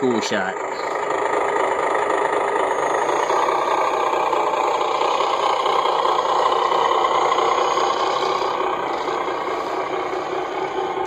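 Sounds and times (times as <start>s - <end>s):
electric motors and gears whining: 0.0s - 11.0s.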